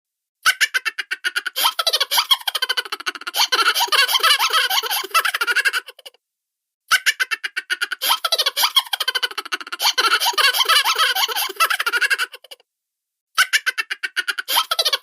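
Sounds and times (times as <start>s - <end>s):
cartoon laughter: 0.4s - 6.2s, 6.9s - 12.6s, 13.4s - 15.0s.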